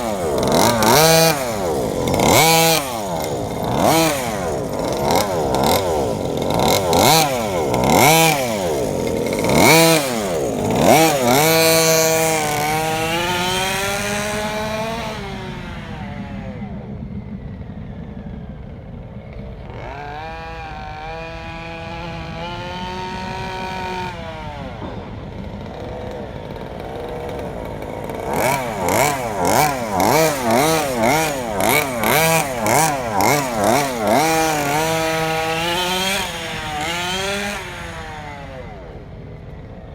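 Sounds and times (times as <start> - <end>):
model car two-stroke engine revving: 0.0 - 39.9.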